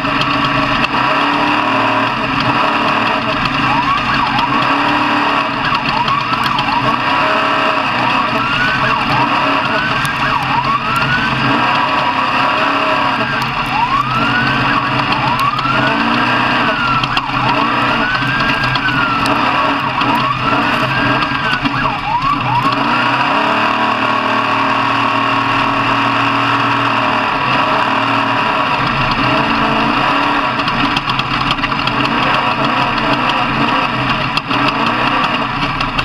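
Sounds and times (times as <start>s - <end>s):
siren wailing: 0.0s - 35.5s
steady engine noise: 0.0s - 36.0s.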